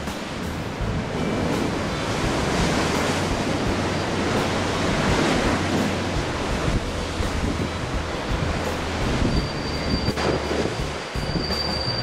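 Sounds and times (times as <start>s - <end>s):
rough sea breaking on breakwater: 0.0s - 12.0s
wind on microphone: 0.0s - 12.0s.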